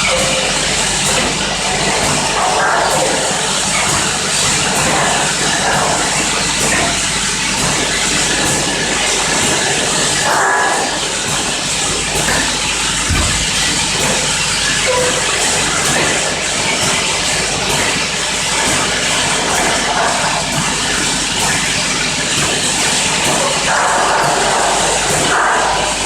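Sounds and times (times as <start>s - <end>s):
filling machine running: 0.0s - 26.0s.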